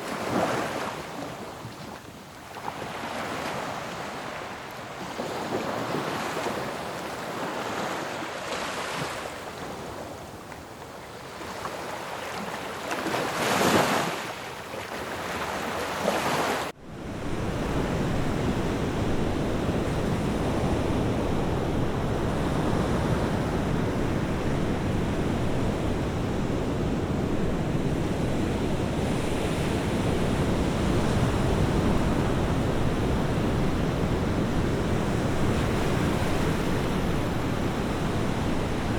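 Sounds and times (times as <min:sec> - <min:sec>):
continuous rush of surf: 0:00.0 - 0:38.9
sea waves breaking on shore: 0:00.0 - 0:38.9.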